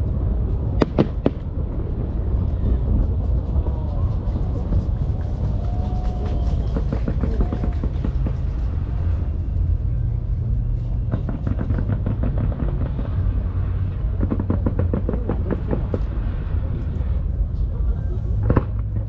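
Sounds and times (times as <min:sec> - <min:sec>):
fireworks crackling: 0:00.0 - 0:19.0
low rumble of firework bursts: 0:00.0 - 0:19.0.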